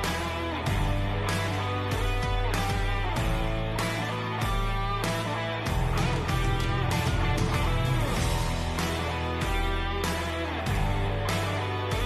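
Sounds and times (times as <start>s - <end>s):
bass and beat: 0.0s - 12.0s
guitar-led background music: 0.0s - 12.0s.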